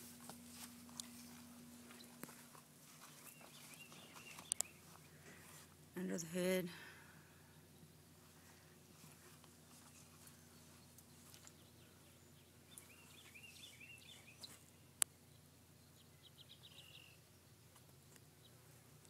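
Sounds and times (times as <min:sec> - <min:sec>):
small birds chirping faintly: 0:00.0 - 0:19.0.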